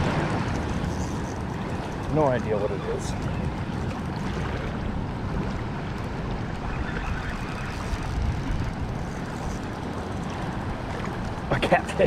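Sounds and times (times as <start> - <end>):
rush of flowing water: 0.0 - 12.0
wind buffeting microphone: 0.0 - 12.0.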